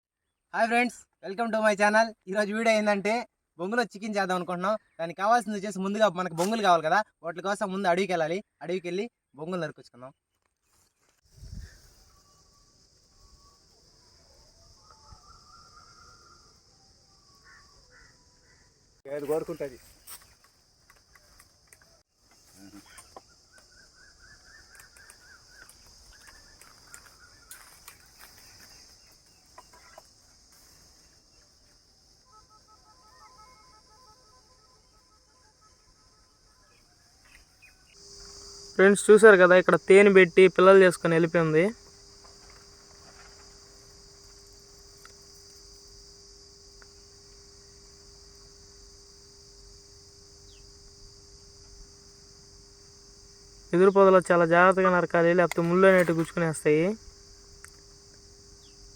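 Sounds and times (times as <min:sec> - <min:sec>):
high insect drone: 0:10.7 - 0:58.9.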